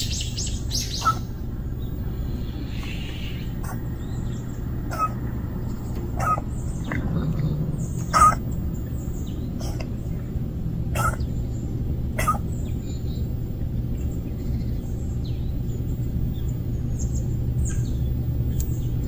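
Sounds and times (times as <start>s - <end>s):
bird calling: 0.0s - 19.0s
low background rumble: 0.0s - 19.0s.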